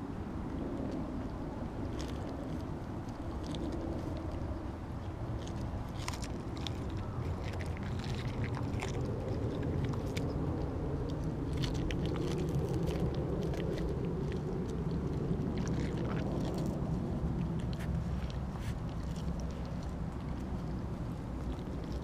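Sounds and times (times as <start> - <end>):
steady low rumble: 0.0 - 22.0
dog chewing raw fish: 0.4 - 22.0.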